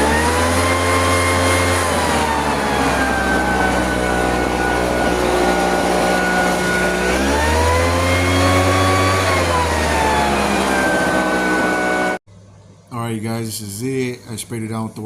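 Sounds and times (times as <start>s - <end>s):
motor whining: 0.0s - 12.2s.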